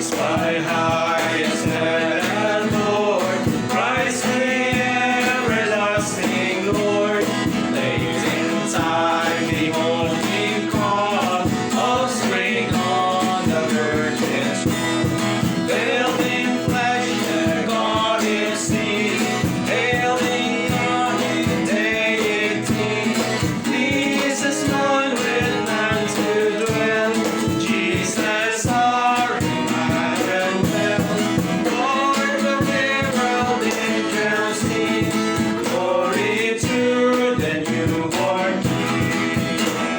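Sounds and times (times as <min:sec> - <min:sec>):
song with singing and instruments: 0:00.0 - 0:39.9.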